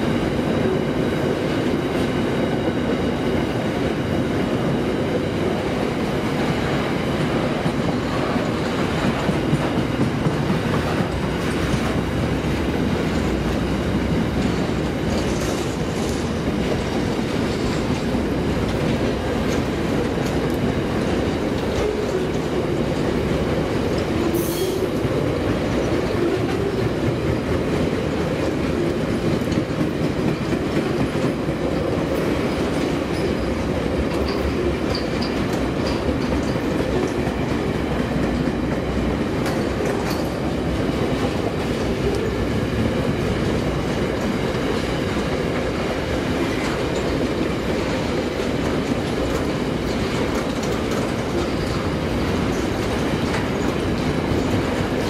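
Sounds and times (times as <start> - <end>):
freight train wheels rumbling: 0.0 - 55.0
wheels clicking over rail joints: 7.2 - 55.0.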